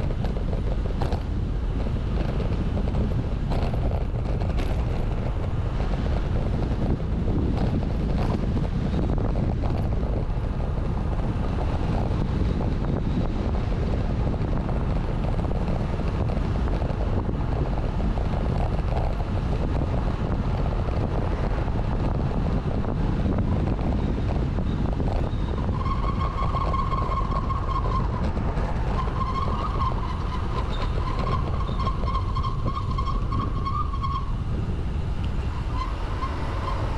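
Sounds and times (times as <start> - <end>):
wind and road rumble: 0.0 - 36.9.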